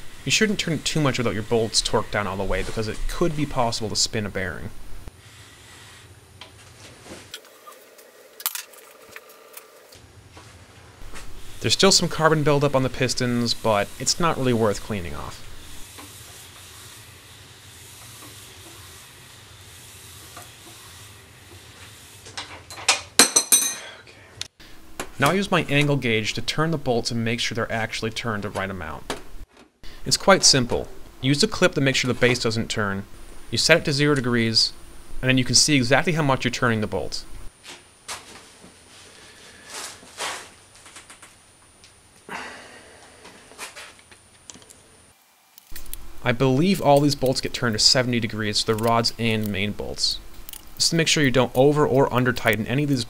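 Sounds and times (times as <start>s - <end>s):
room tone hiss and hum: 0.0s - 53.0s.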